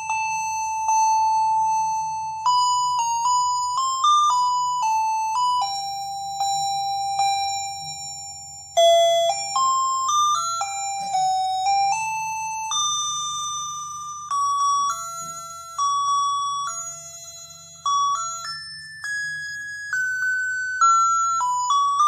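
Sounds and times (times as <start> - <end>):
chime-like electronic tune: 0.0 - 22.0.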